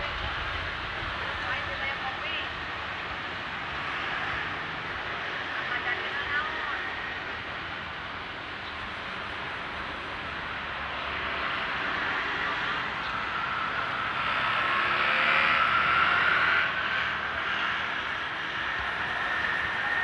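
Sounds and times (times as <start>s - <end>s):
cars and motorcycles running: 0.0s - 20.0s
vehicle passing with whine: 0.0s - 20.0s.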